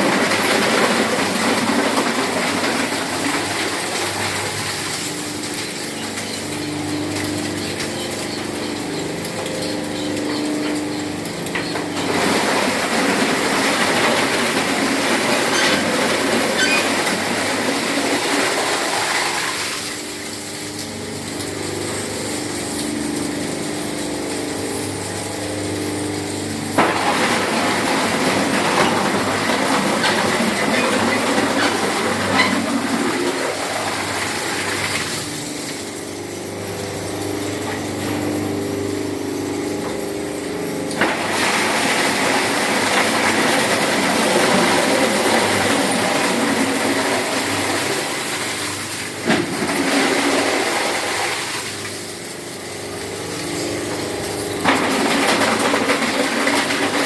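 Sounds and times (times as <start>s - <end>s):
shredder grinding scrap metal: 0.0s - 57.0s
shredder motor hum: 0.0s - 57.0s.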